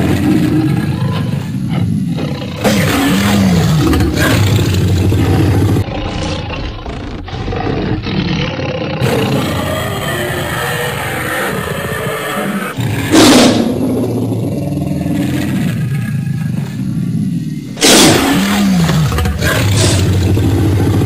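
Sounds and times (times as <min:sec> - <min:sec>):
cartoon lion roaring: 0:00.0 - 0:21.0.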